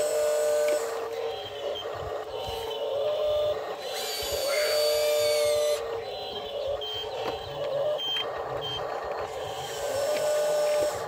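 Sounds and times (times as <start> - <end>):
small electric motors whining: 0.0 - 11.0.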